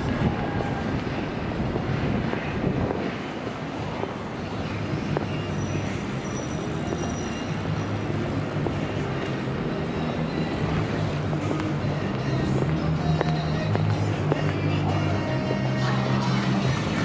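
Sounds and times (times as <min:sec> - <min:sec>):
low rumble of motor traffic: 0:00.0 - 0:17.0.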